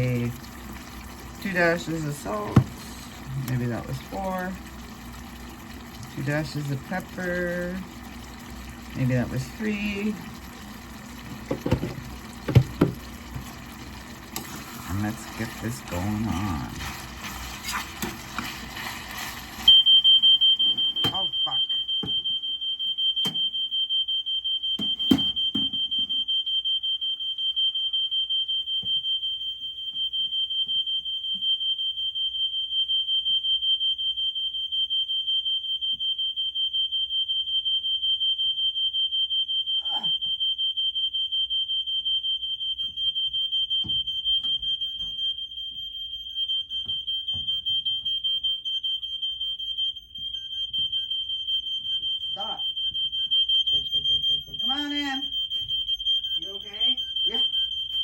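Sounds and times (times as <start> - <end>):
smoke alarm pulsing beep: 0.0 - 58.0.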